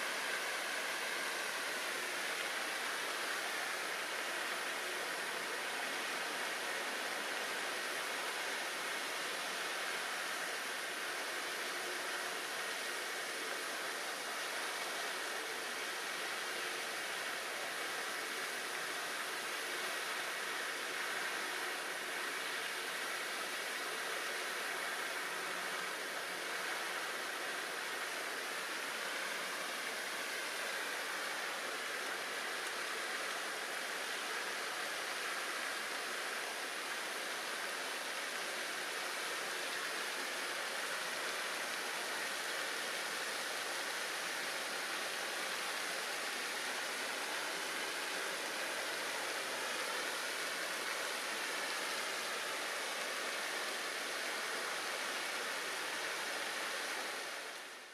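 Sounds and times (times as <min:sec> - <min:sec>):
outdoor ambience rushing noise: 0:00.0 - 0:57.9.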